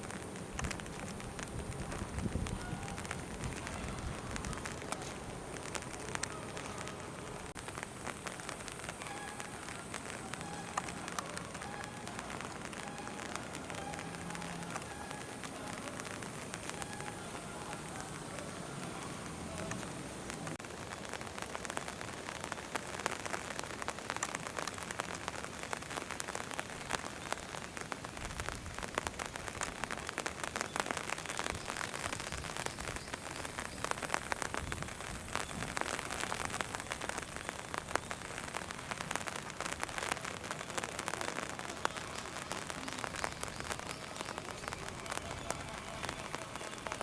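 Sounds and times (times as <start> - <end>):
rain falling: 0.0 - 47.0
sharp raindrop hits: 0.0 - 47.0.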